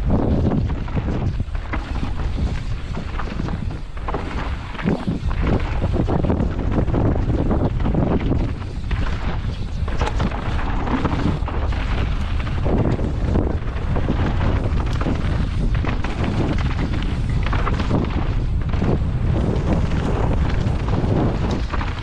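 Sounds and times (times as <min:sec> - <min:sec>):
bike knocks and rattles: 0:00.0 - 0:22.0
wind buffeting microphone: 0:00.0 - 0:22.0.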